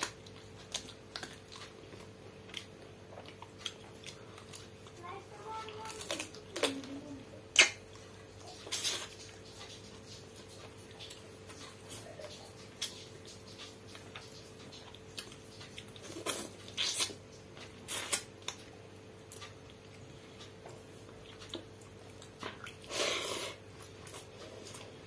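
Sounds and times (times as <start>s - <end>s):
chewing and wet mouth clicks: 0.0s - 5.0s, 7.5s - 25.0s.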